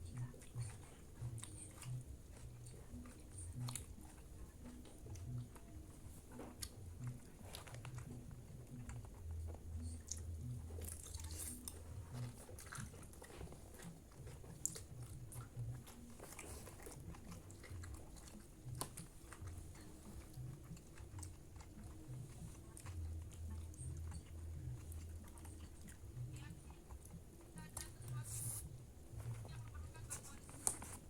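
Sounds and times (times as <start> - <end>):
close-up chewing: 0.0 - 31.0.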